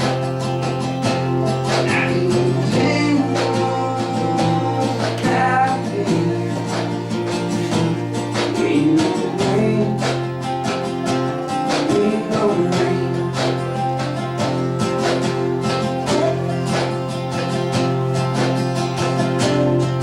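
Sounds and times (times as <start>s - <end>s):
acoustic country band playing: 0.0s - 20.0s
acoustic guitars strummed: 0.0s - 20.0s.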